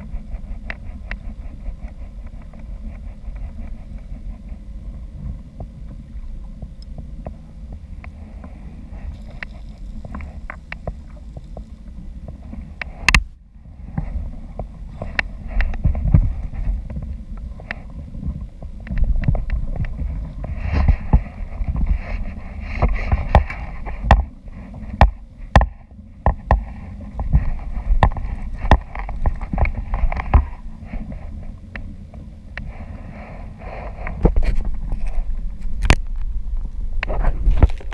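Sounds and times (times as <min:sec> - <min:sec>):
water and wind rumble: 0:00.0 - 0:37.9.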